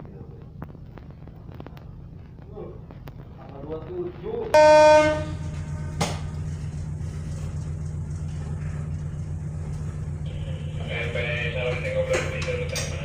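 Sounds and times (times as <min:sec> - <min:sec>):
ferry engines droning: 0:00.0 - 0:13.0.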